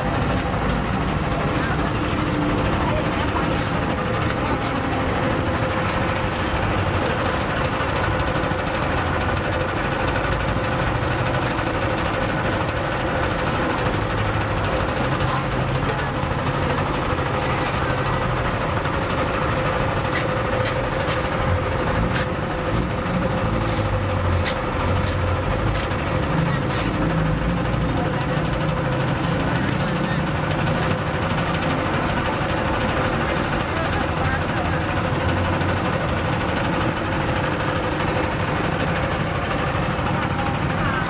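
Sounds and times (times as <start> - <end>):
sugarcane juicer humming: 0.0 - 40.8.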